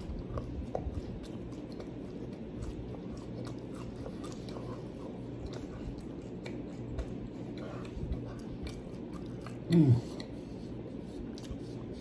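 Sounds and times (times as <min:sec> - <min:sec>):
low steady hum: 0:00.0 - 0:12.0
person chewing: 0:00.0 - 0:12.0.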